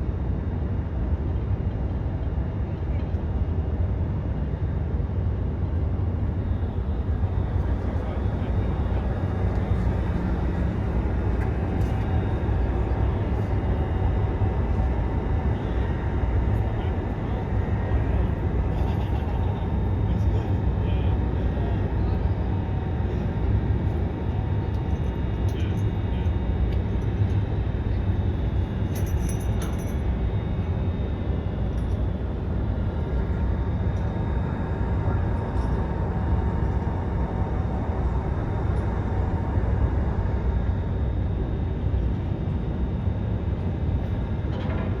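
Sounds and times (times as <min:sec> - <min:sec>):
faint hum of steady tones: 0:00.0 - 0:45.0.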